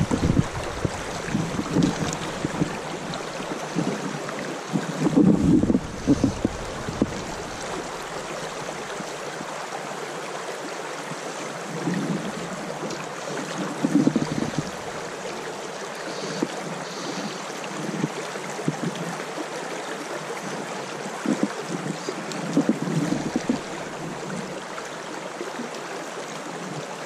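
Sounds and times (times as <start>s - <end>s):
low rumbling water surges: 0.0s - 27.0s
river running over stones: 0.0s - 27.0s.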